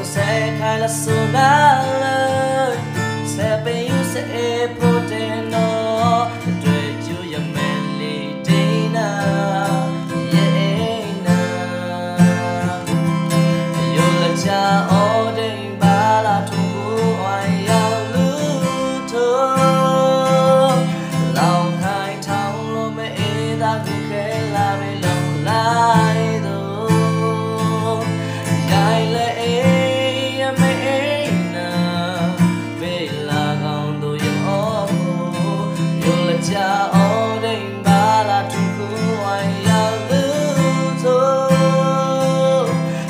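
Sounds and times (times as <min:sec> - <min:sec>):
man singing: 0:00.0 - 0:43.0
strummed acoustic guitar: 0:00.0 - 0:43.0.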